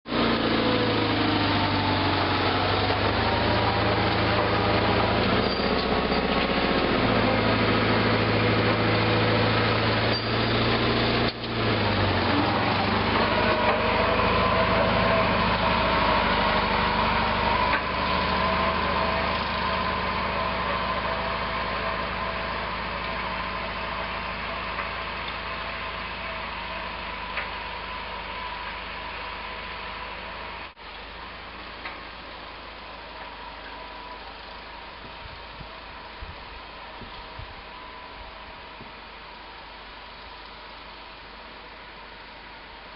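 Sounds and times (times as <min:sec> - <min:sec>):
garden tractor engine running: 0:00.1 - 0:42.9.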